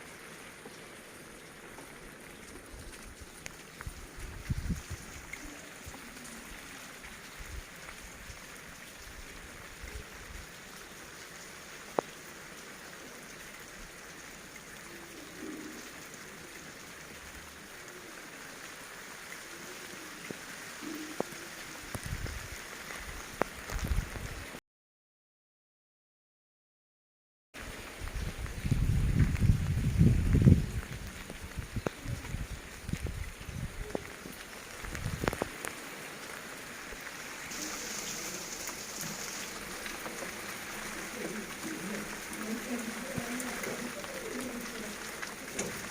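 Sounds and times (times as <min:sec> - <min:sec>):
heavy rain falling: 0:00.0 - 0:24.6, 0:27.6 - 0:45.9.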